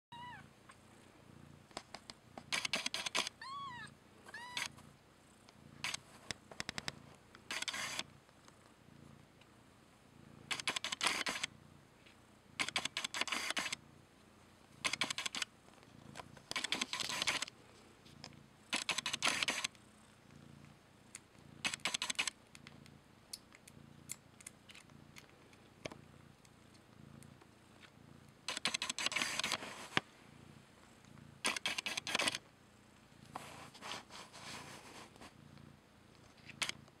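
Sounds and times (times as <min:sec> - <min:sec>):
cat purring: 0:00.1 - 0:37.0.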